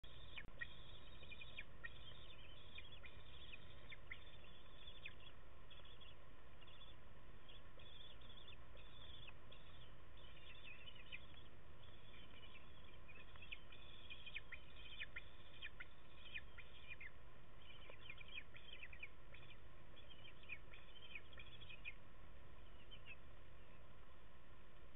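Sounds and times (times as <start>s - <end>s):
eaglets high chirps: 0.0s - 22.0s, 22.6s - 23.9s
low background noise: 0.0s - 24.9s.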